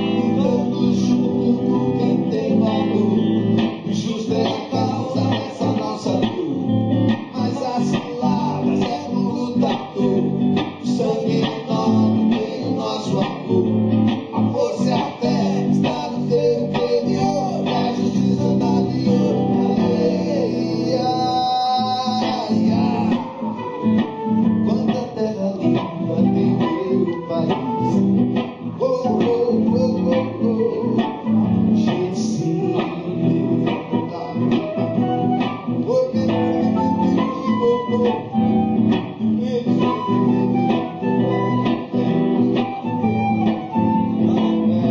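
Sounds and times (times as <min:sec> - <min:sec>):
guitar: 0:00.0 - 0:44.9
live band music: 0:00.0 - 0:44.9.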